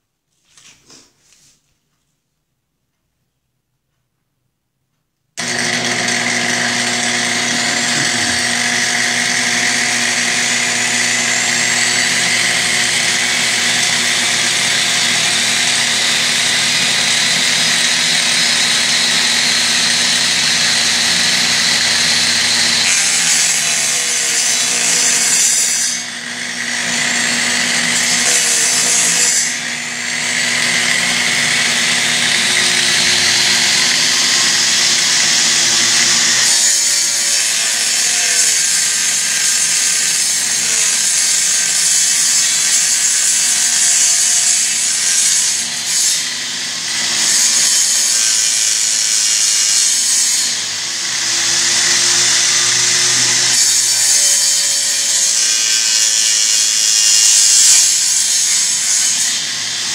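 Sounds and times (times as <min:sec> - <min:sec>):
angle grinder cutting aluminum: 0:05.4 - 0:59.9.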